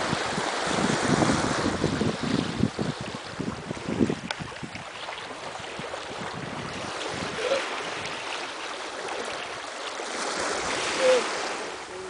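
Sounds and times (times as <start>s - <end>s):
water splashing past boat hull: 0.0s - 11.9s
wind buffeting microphone: 0.0s - 12.0s.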